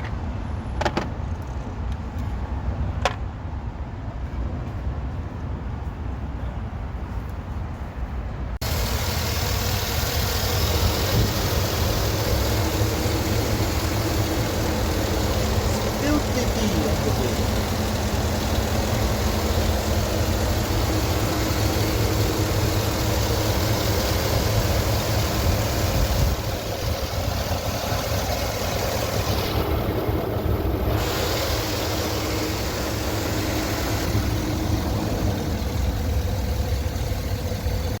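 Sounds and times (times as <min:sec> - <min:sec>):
car engine rumbling: 0:00.0 - 0:38.0.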